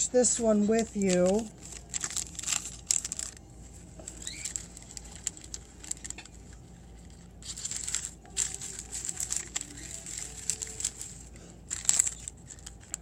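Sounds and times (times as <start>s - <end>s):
paper liners crinkling: 0.0s - 13.0s.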